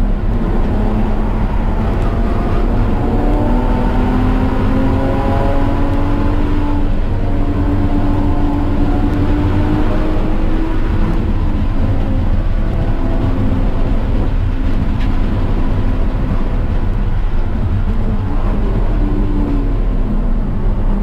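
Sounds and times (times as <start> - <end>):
car engine revving: 0.0 - 21.0
wind and road noise: 0.0 - 21.0.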